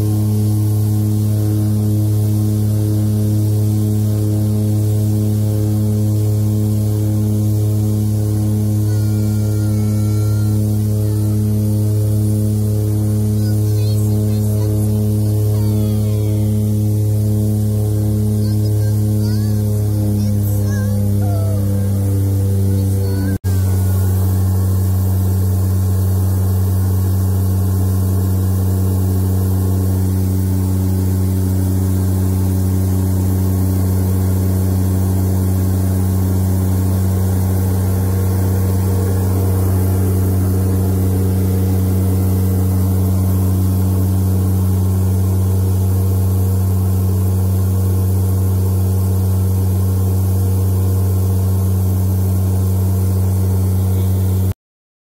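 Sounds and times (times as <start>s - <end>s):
aircraft engines droning: 0.0s - 54.5s.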